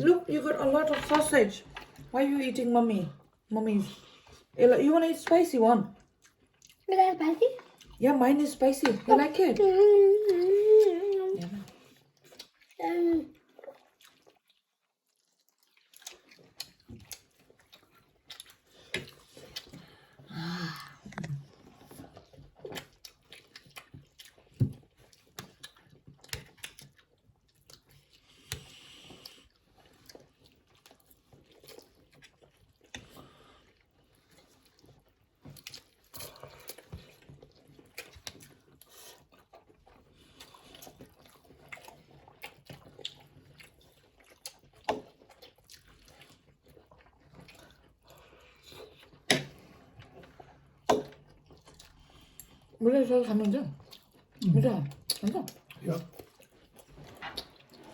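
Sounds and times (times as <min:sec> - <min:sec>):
people chewing food: 0:00.0 - 0:57.9.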